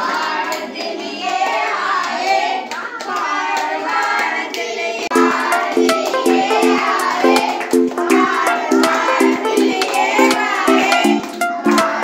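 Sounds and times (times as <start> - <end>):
children singing together: 0.0 - 12.0
hands clapping: 0.0 - 12.0.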